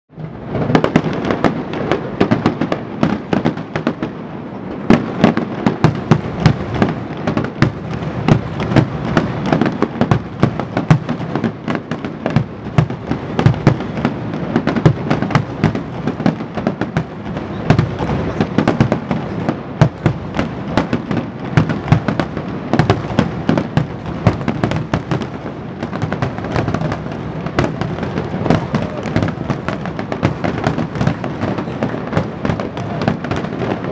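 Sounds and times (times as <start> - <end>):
fireworks bursting: 0.1 - 33.9.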